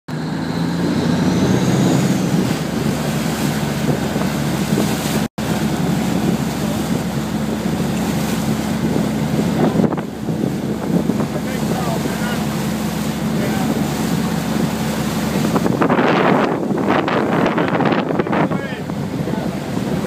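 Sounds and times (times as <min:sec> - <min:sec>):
boat engine humming: 0:00.1 - 0:20.0
rushing water: 0:00.1 - 0:20.0
wind noise on microphone: 0:00.2 - 0:20.0.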